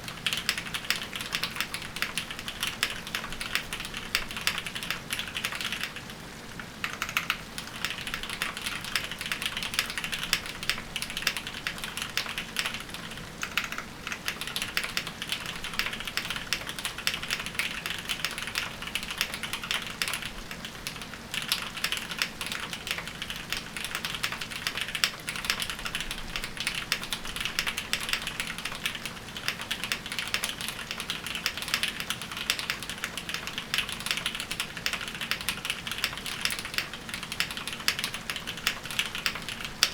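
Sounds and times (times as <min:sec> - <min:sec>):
fast typing on mechanical keyboard: 0:00.1 - 0:06.1, 0:06.8 - 0:39.9.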